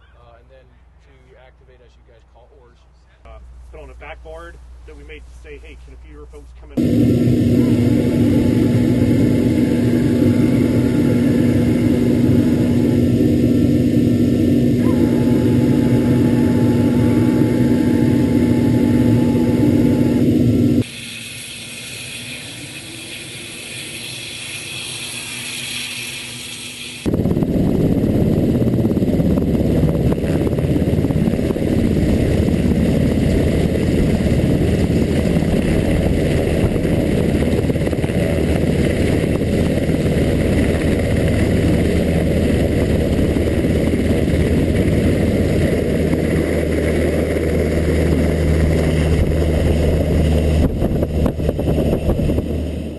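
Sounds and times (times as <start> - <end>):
rotor wash buffeting microphone: 3.3 - 26.4, 27.0 - 52.9
helicopter turbine whine: 3.7 - 52.9
helicopter rotors rumbling: 3.8 - 20.9, 26.2 - 52.9.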